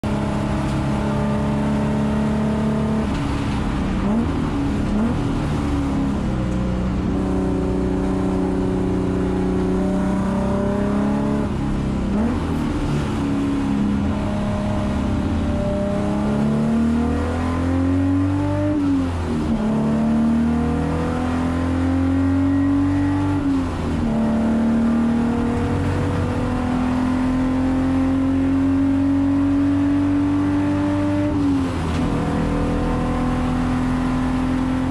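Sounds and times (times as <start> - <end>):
race car engine revving: 0.0 - 34.9.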